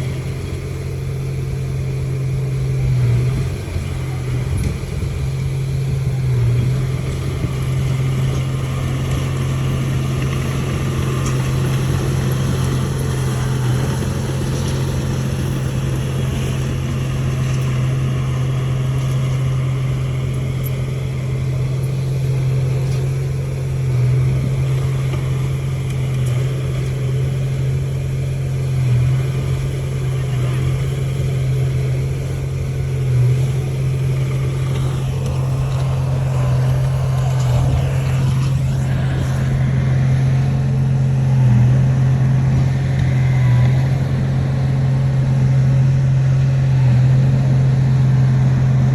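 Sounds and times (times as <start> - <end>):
bulldozer diesel engine drone: 0.0 - 48.9.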